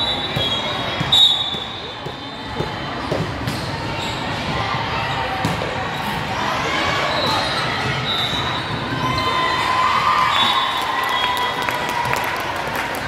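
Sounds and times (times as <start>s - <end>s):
spectators talking: 0.0s - 13.0s.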